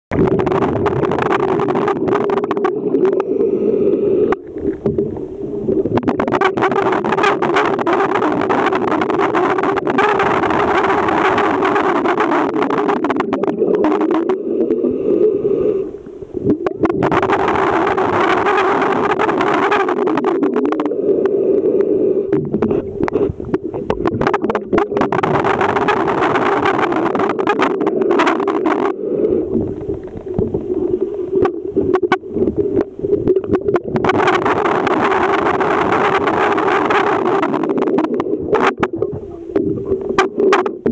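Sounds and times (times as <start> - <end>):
underwater low hum: 0.1 - 40.9
underwater rushing noise: 0.1 - 40.9.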